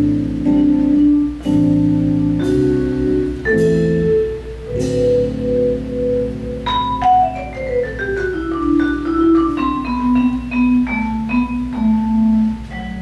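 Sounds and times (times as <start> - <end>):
held keyboard chord: 0.0 - 13.0
vibraphone descending run: 0.0 - 13.0.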